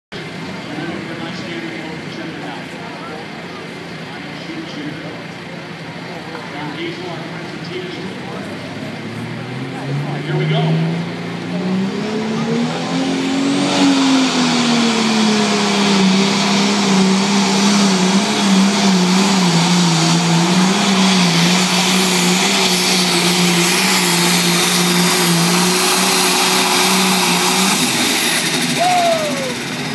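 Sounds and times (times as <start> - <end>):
tractor diesel engine high-revving: 0.1 - 29.9.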